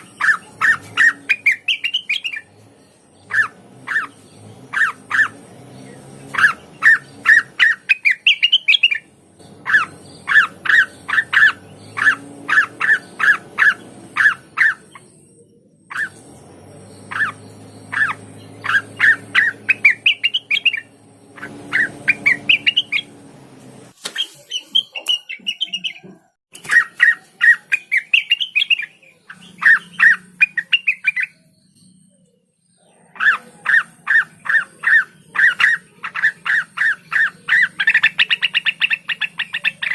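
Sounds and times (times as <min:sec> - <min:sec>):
leafbird singing: 0:00.0 - 0:39.9.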